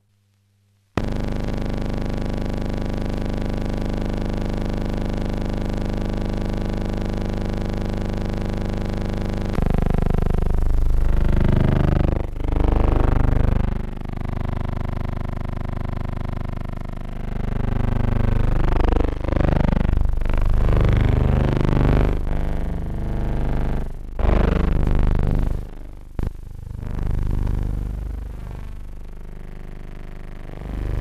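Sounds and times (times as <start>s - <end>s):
steady buzzing hum: 0.0s - 31.0s.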